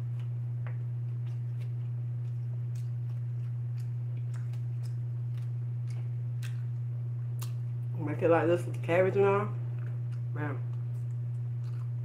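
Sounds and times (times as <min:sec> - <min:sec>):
person chewing food: 0:00.0 - 0:07.8, 0:09.6 - 0:12.0
steady low hum: 0:00.0 - 0:12.0.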